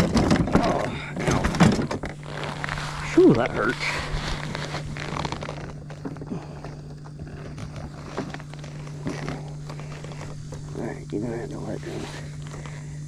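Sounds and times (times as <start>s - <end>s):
knocks and rustling: 0.0s - 10.8s
low hum: 0.0s - 13.0s.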